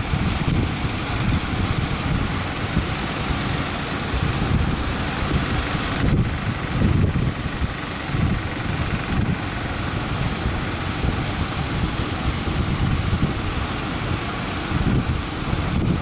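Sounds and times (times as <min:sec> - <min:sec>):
wind gusting on microphone: 0:00.0 - 0:16.0.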